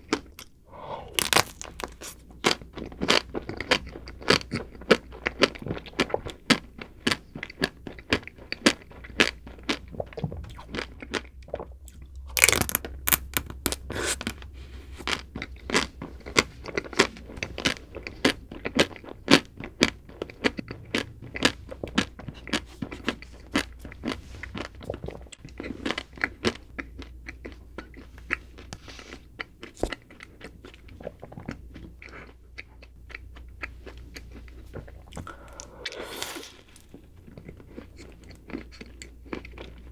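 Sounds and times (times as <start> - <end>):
chewing crunchy chocolate: 0.0 - 39.9.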